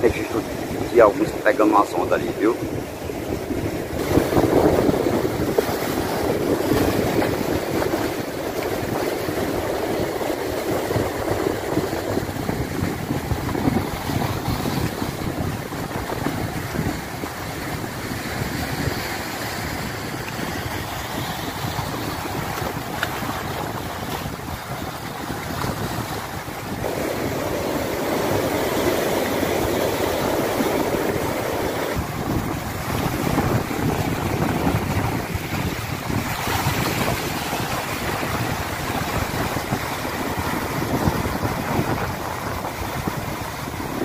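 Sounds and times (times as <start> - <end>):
surf breaking over rocks: 0.0 - 44.0
wind buffeting microphone: 0.0 - 44.0.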